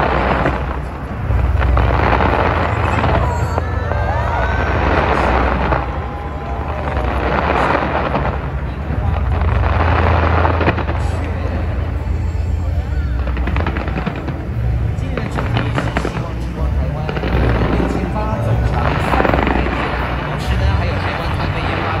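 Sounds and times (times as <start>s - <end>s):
fireworks deep rumble: 0.0s - 22.0s.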